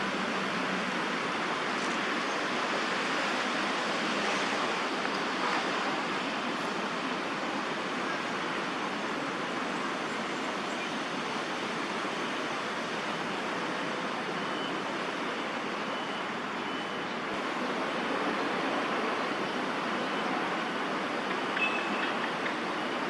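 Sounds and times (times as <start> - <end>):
distant city traffic hum: 0.0 - 23.0.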